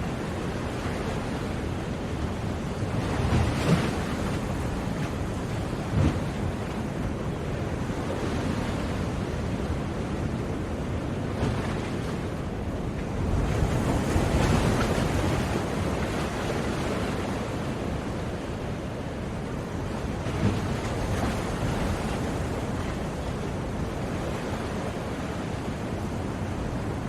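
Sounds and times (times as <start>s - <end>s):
ocean surf waves: 0.0s - 27.0s.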